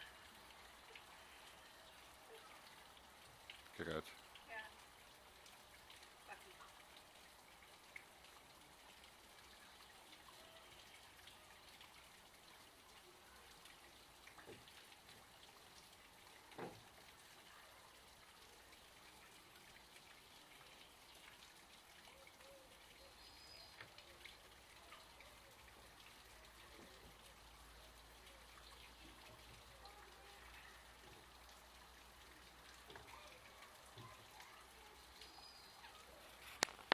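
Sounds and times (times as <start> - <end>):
faint outdoor hiss: 0.0 - 36.9.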